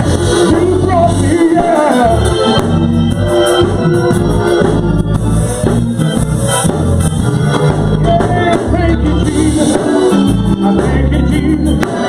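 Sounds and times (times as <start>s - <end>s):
bass notes: 0.0s - 12.0s
drums keeping a beat: 0.0s - 12.0s
organ chords: 0.0s - 12.0s.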